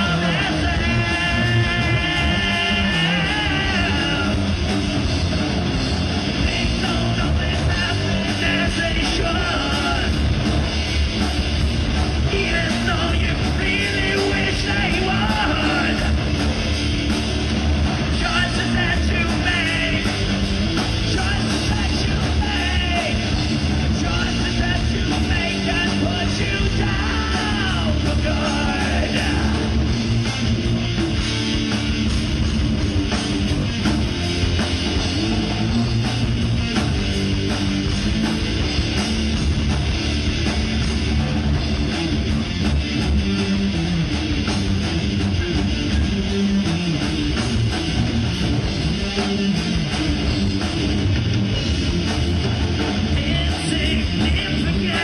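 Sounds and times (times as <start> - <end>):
electric guitar: 0.0 - 55.0
heavy rock band playing: 0.0 - 55.0.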